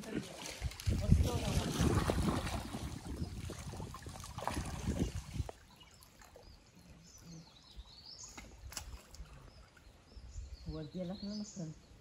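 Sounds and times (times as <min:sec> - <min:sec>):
water splashing and sloshing: 0:00.0 - 0:10.2.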